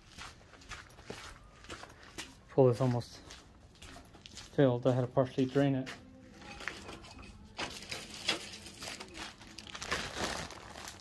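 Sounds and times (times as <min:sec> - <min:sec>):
crinkling and crunching handling noise: 0:00.2 - 0:11.0.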